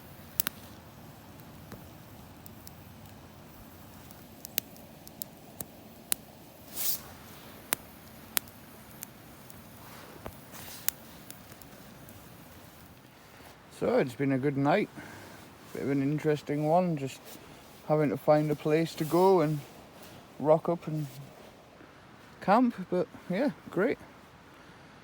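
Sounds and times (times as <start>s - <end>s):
campfire crackling and popping: 0.0s - 21.8s
fire hissing: 0.0s - 22.4s.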